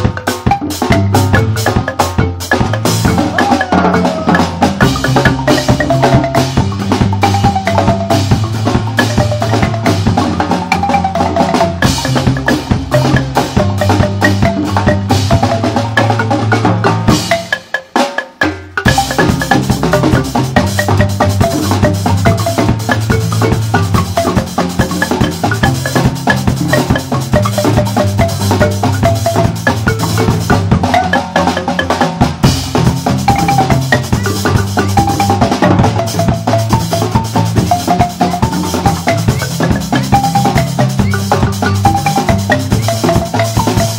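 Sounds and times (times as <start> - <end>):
drum kit: 0.0 - 43.9
marimba band playing: 0.0 - 43.9.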